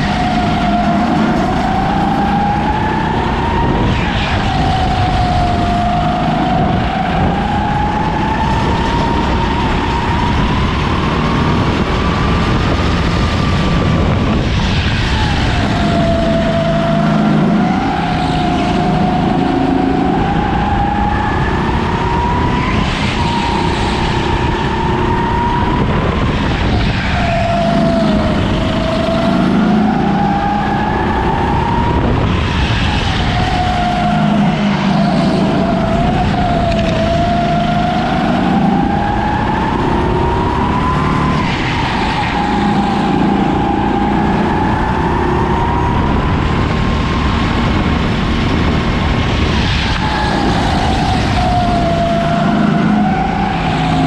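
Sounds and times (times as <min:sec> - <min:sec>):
kart engine at full throttle: 0:00.0 - 0:54.0.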